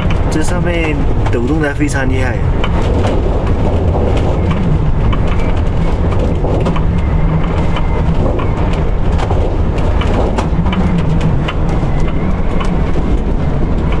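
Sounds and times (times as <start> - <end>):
gale buffeting vehicle: 0.0 - 14.0
roof rattling and knocking: 0.0 - 14.0.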